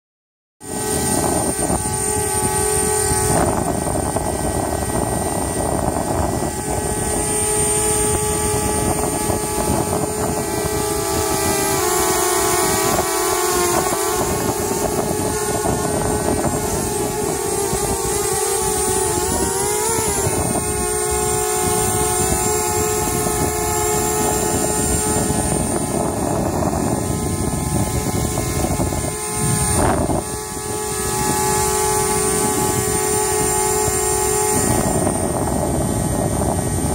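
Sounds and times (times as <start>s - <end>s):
drone propellers buzzing: 0.6s - 36.9s.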